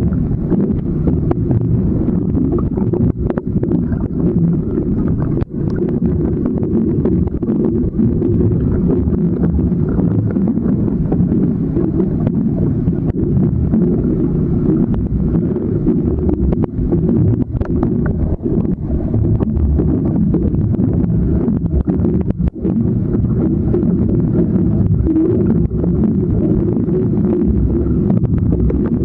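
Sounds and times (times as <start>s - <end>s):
muffled underwater waterfall rumble: 0.0s - 29.0s.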